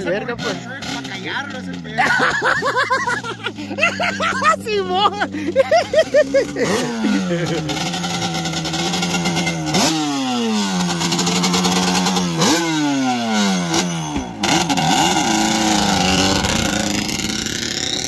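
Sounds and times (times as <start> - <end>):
small motorcycle engine revving: 0.0 - 18.0.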